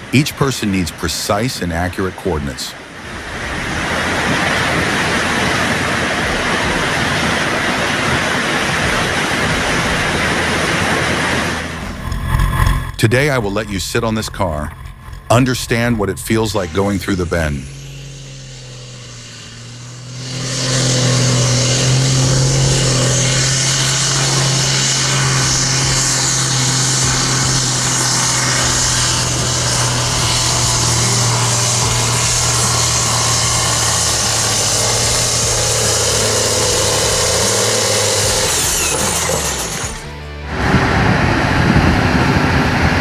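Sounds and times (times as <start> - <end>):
heavy vehicle engine humming: 0.0 - 43.0
road and air noise: 0.0 - 43.0.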